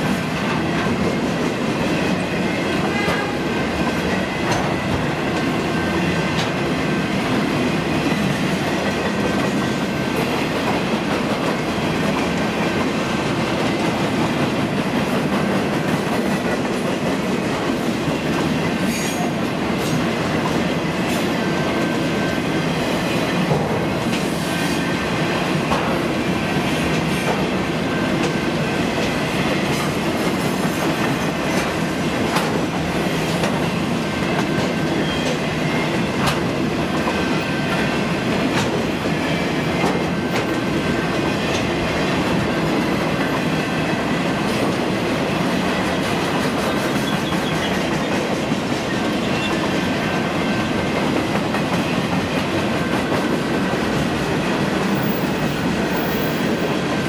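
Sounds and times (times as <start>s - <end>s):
train cars clattering over rails: 0.0s - 57.0s.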